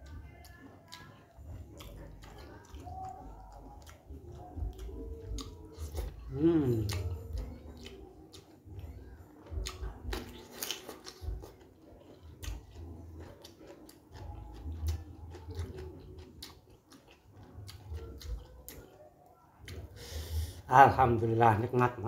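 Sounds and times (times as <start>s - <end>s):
man chewing food: 0.0s - 20.7s.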